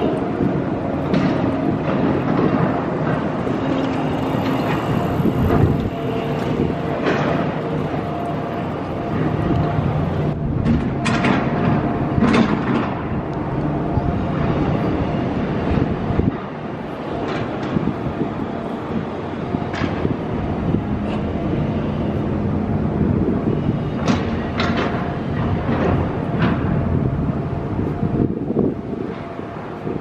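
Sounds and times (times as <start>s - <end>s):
rail clatter: 0.0s - 30.0s
train rumbling on tracks: 0.0s - 30.0s.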